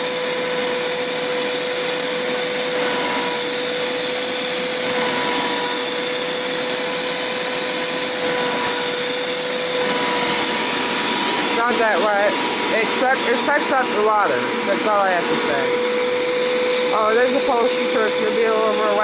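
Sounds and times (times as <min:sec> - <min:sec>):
carpet cleaner suction motor: 0:00.0 - 0:19.0.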